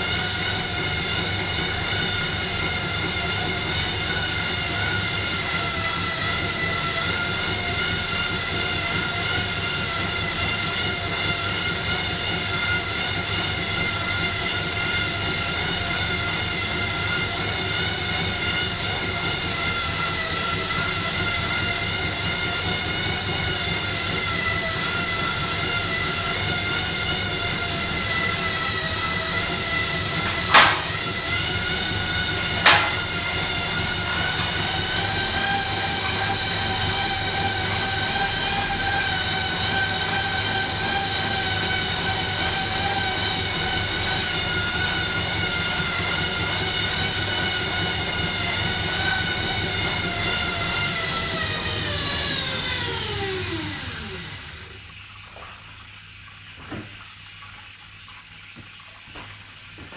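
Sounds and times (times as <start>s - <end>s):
bicycle rollers whirring: 0.0s - 54.9s.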